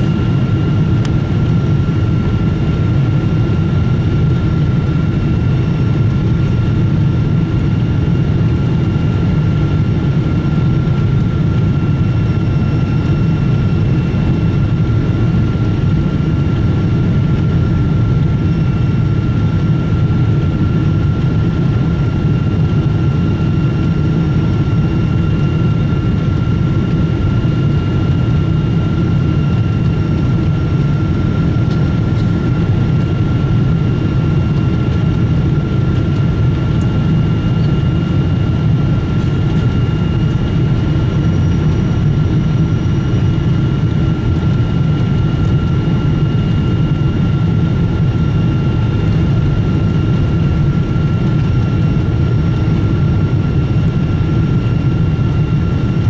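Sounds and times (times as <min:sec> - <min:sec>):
airplane cabin engine rush: 0:00.0 - 0:56.0
thin steady whine: 0:00.0 - 0:56.0.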